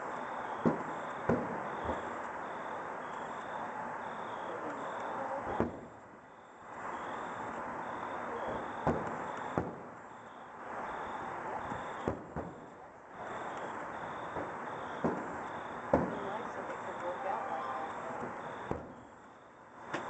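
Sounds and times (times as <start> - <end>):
firework bangs: 0.0 - 20.0
rushing crackle: 0.0 - 20.0.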